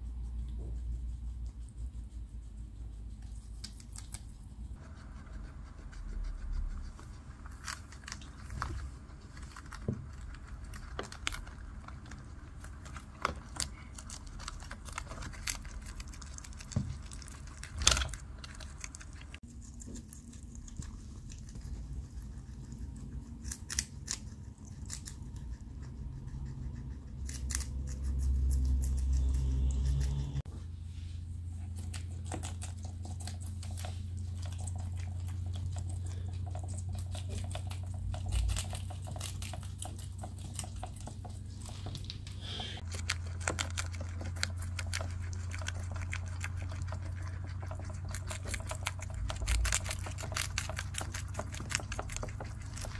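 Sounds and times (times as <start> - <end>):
guinea pigs crunching vegetables: 0.0 - 52.9
low steady hum: 0.0 - 52.9.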